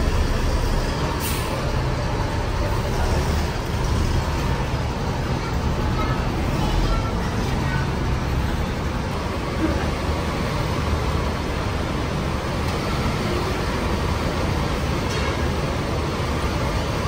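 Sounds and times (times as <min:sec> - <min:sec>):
bus engines rumbling: 0:00.0 - 0:17.0.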